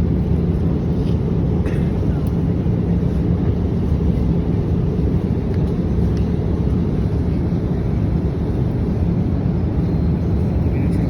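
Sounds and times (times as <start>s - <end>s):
aircraft in flight rumble: 0.0s - 11.0s.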